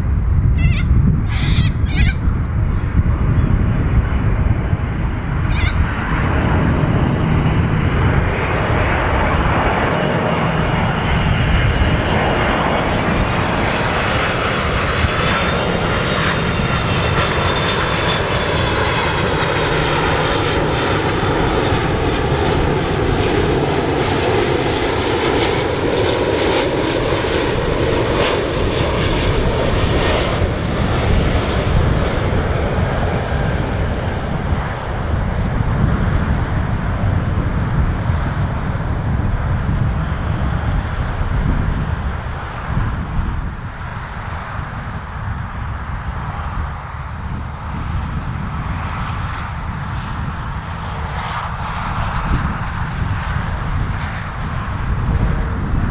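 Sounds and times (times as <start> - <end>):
jet airliner passing overhead: 0.0 - 55.9.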